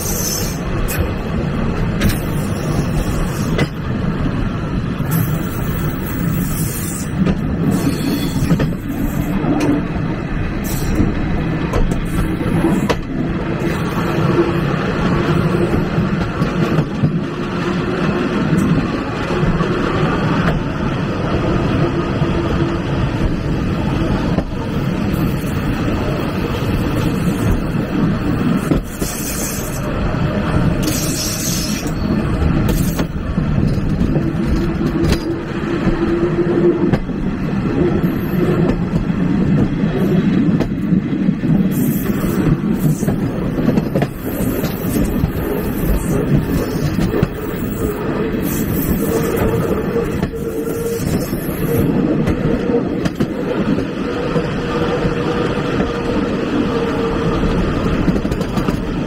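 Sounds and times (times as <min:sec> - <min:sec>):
rail clicks: 0:00.0 - 0:59.0
train wheels rumbling on rails: 0:00.0 - 0:59.0.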